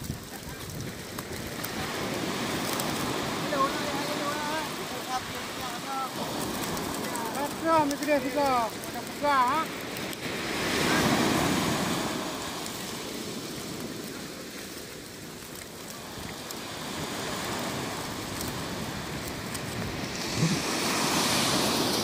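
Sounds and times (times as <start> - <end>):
wind buffeting microphone: 0.0 - 14.4, 15.8 - 22.0
sea surf washing in: 0.0 - 22.0.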